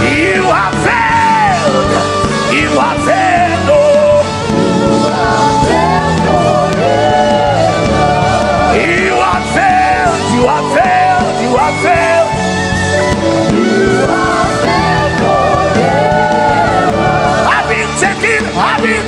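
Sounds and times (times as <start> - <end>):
band playing gospel music: 0.0 - 19.0.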